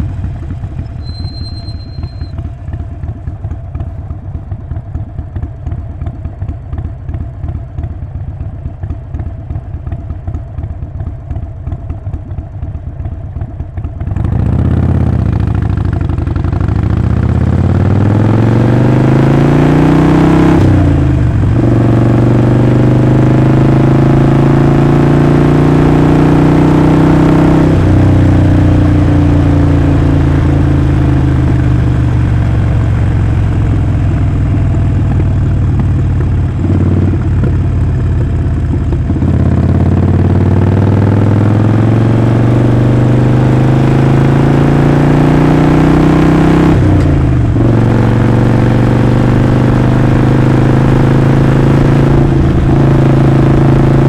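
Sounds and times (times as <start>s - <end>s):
motorcycle engine exhaust: 0.0s - 54.0s.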